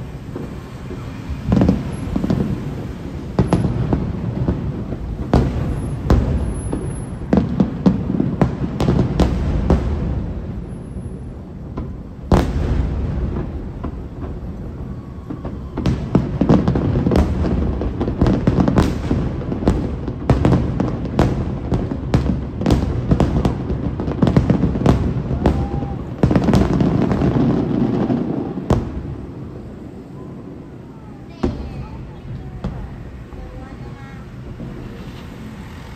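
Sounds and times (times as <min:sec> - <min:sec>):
firework shell bursts and booms: 0:00.0 - 0:29.6.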